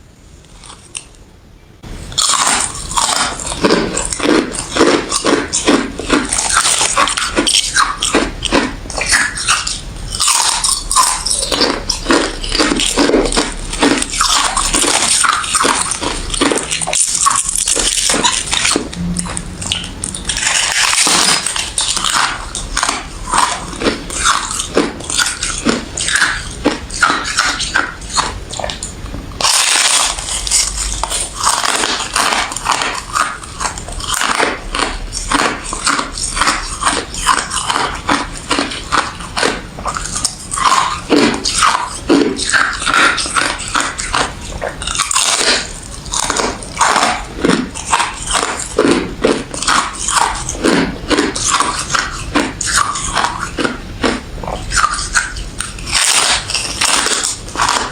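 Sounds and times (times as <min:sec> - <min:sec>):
ice being chewed: 0:00.4 - 0:01.2, 0:01.8 - 0:57.9.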